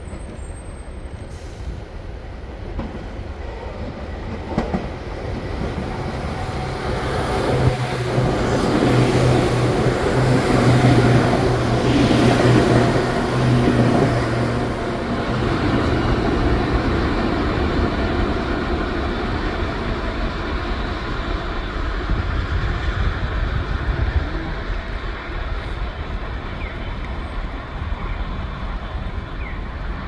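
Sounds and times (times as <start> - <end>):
electric train rumble and hum: 0.0 - 30.0.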